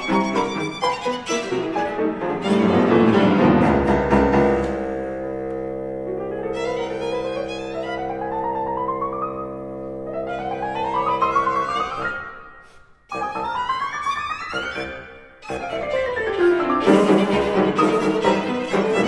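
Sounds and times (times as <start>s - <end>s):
chamber music ensemble: 0.0s - 19.0s.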